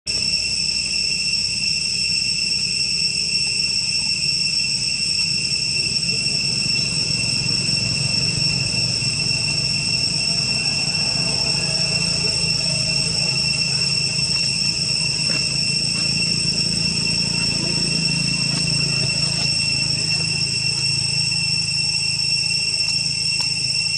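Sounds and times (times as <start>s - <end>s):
insects droning: 0.1s - 23.9s.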